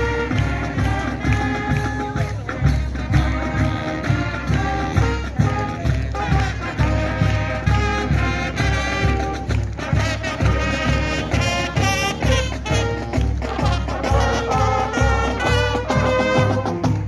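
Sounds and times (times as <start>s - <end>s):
saxophones: 0.0s - 17.0s
steady drum beat: 0.0s - 17.0s
trumpets: 0.0s - 17.0s.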